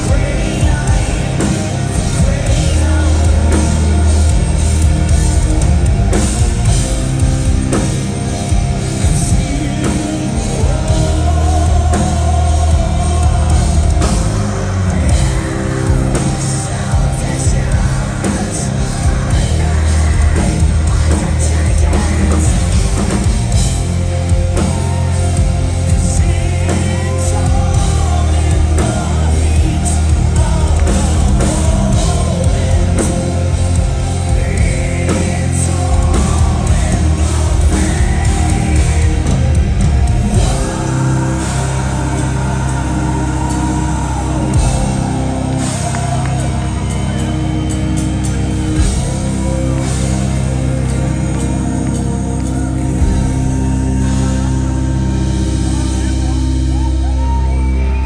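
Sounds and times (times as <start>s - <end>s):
metal band playing live: 0.0s - 58.0s
person singing: 0.0s - 58.0s.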